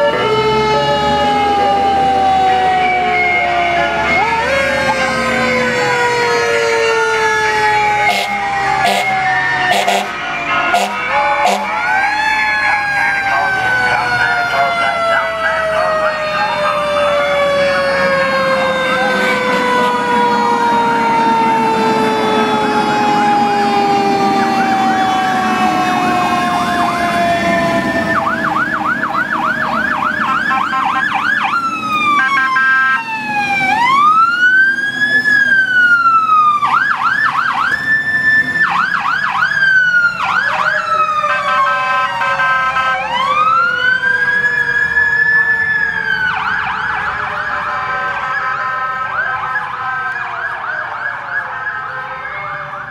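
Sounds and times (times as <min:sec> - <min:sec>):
electronic siren yelp and wail: 0:00.0 - 0:52.9
siren winding down: 0:00.0 - 0:52.9.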